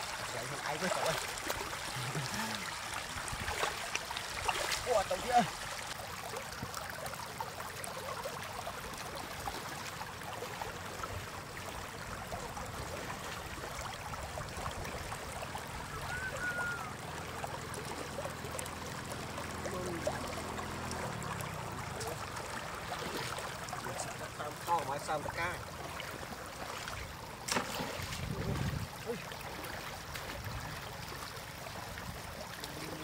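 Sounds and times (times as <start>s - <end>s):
feet wading through water: 0.0s - 33.0s
floodwater trickling over stones: 0.0s - 33.0s.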